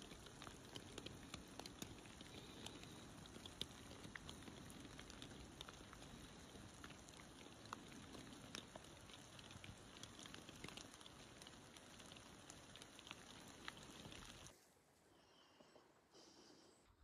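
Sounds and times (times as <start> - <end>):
raindrops ticking: 0.0 - 14.5
light rain hiss: 0.0 - 17.0.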